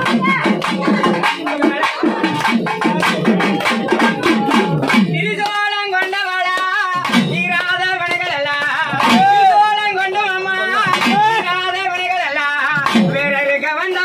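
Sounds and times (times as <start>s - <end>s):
hand drums playing fast: 0.0s - 14.0s.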